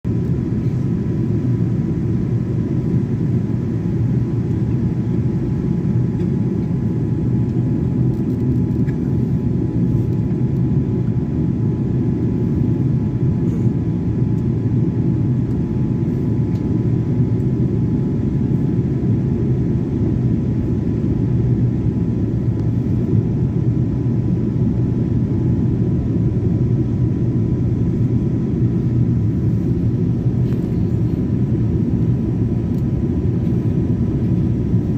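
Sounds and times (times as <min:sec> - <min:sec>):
airliner engine drone: 0:00.1 - 0:34.9
faint steady whine: 0:00.1 - 0:34.9.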